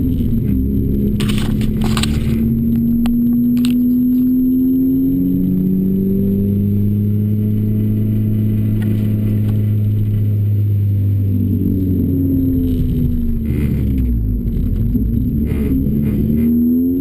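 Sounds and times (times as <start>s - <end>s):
car engine pulling hard: 0.0s - 17.0s.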